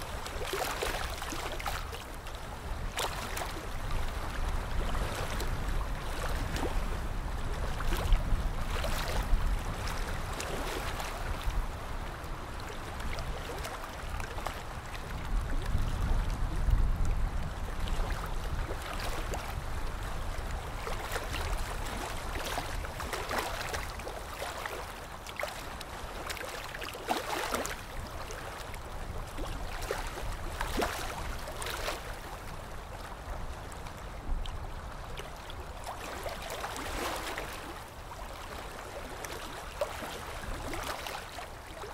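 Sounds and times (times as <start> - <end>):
water splashing and lapping: 0.0 - 41.9.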